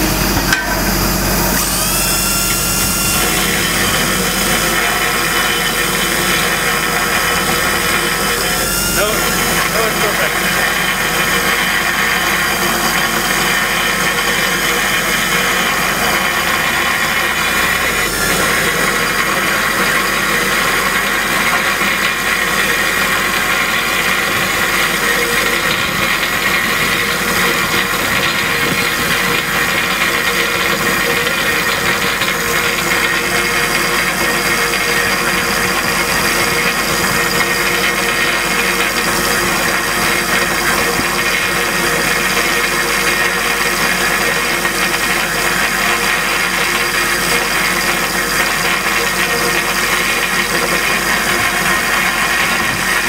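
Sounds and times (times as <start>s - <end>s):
large grinder whining: 0.0s - 53.0s.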